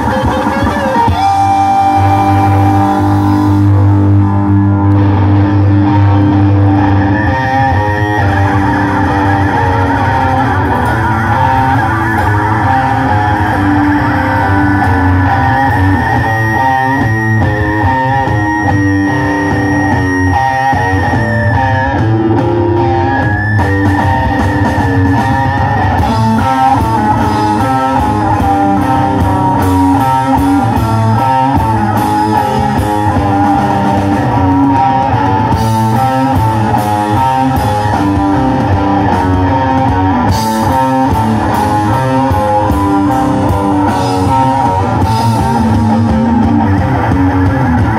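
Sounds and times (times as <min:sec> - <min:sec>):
held high guitar note: 0:00.0 - 0:47.9
rock band playing live: 0:00.0 - 0:47.9.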